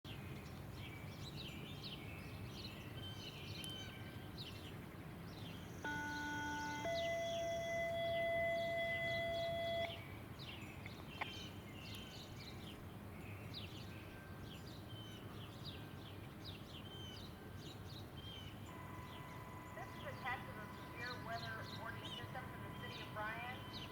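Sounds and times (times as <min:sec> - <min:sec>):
low outdoor hum: 0:00.1 - 0:23.9
small birds chirping: 0:00.1 - 0:23.9.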